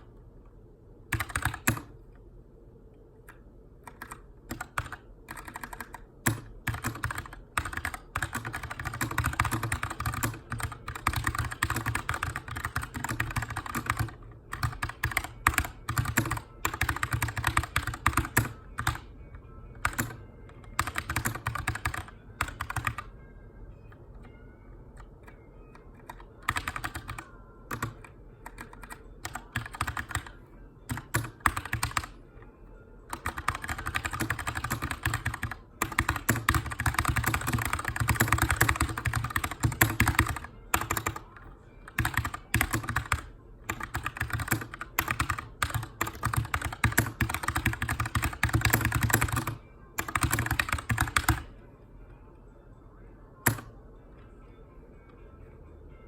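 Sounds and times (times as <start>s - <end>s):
mechanical keyboard typing: 1.1s - 2.0s, 3.3s - 19.1s, 19.8s - 23.1s, 25.0s - 32.2s, 33.1s - 51.5s, 53.4s - 53.7s.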